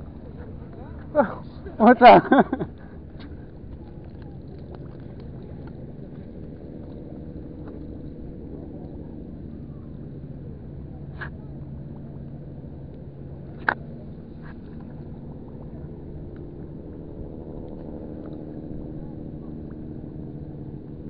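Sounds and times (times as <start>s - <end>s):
distant engines droning: 0.0s - 21.0s.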